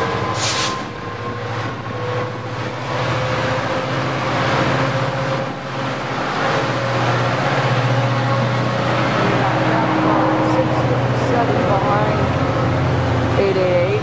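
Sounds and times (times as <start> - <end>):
train engine hum and rolling: 0.0 - 14.0.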